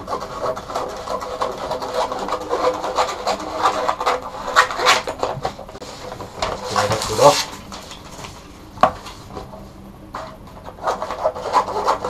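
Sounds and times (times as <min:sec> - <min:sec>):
paper crinkling and rustling: 0:00.0 - 0:12.0.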